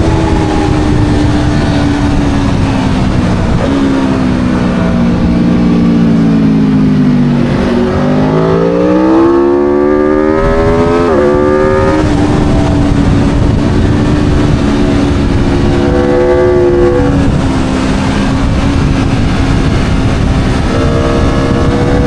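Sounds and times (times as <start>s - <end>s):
motorcycle engine revving: 0.0s - 22.0s
wind noise: 0.0s - 22.0s.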